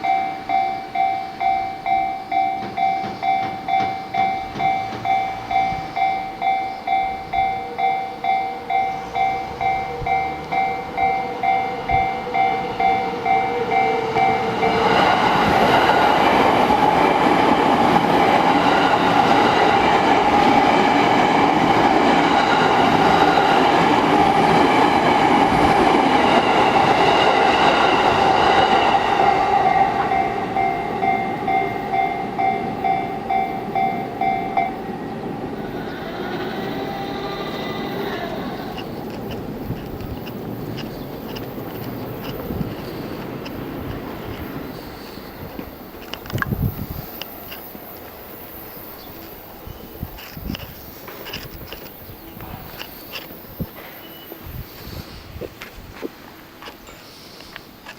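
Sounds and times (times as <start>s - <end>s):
level-crossing warning bell: 0.0s - 54.7s, 56.4s - 57.9s
train passing: 0.0s - 57.9s.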